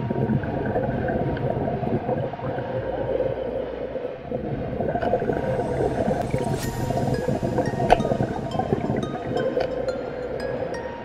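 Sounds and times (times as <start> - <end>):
muffled underwater drone: 0.0 - 11.0.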